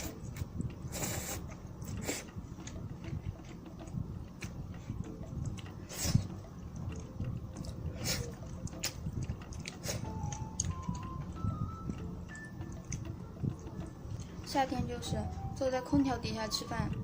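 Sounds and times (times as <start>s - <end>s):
person chewing: 0.0s - 11.3s, 11.9s - 14.4s.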